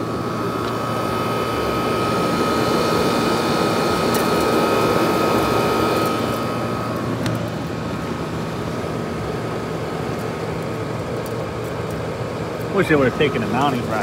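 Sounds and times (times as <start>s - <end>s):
air conditioner fan rushing: 0.0s - 14.0s
thin steady whine: 0.0s - 14.0s.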